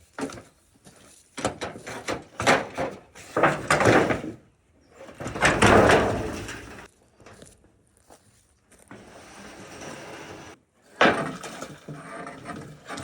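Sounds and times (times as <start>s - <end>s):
wood and debris scraping and clattering: 0.0s - 7.6s, 8.8s - 13.0s.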